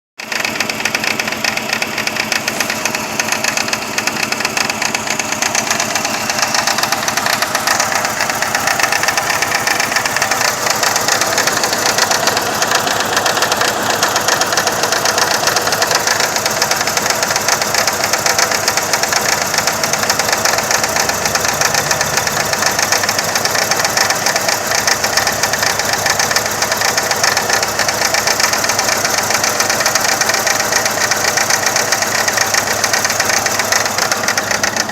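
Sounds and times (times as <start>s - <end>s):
car engine idling rough: 0.2s - 34.9s.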